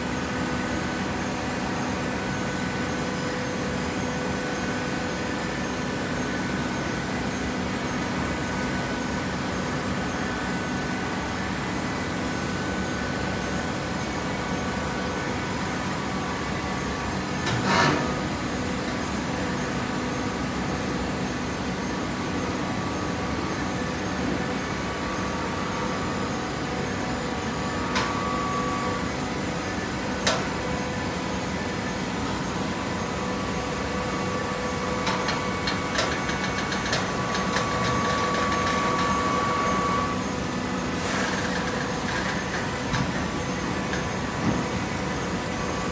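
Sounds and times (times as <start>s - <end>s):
baler humming and whining: 0.0s - 45.9s.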